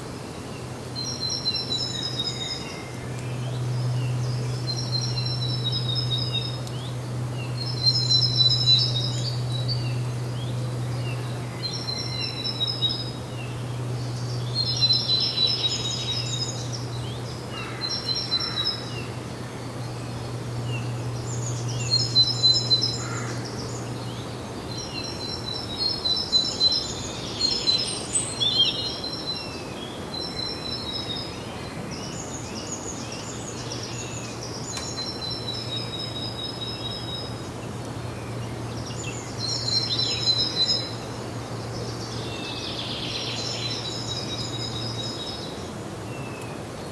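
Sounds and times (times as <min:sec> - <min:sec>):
steady low hum: 0:00.0 - 0:46.8
songbirds singing: 0:00.0 - 0:46.9.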